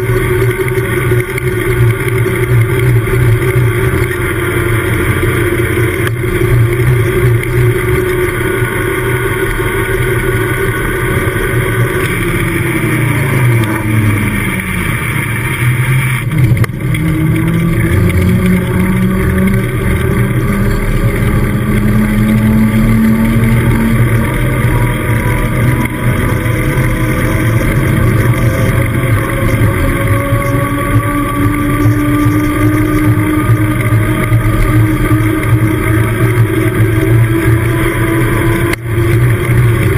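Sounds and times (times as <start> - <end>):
bike tyres humming on tarmac: 0.0 - 39.9.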